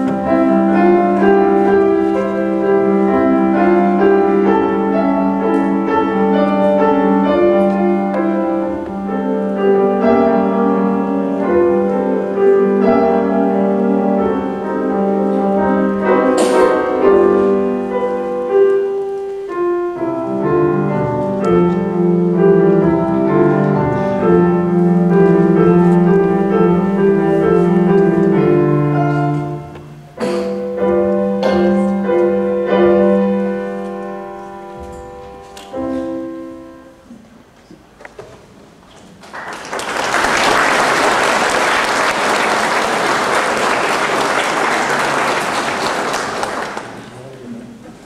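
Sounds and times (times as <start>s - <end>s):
slow classical piano chords: 0.0s - 48.0s.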